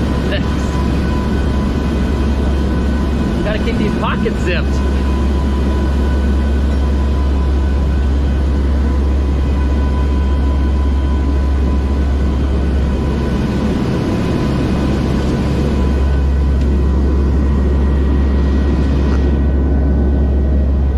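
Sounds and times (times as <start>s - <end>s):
steady whining tones: 0.0s - 20.9s
turboprop aircraft cabin drone: 0.0s - 20.9s.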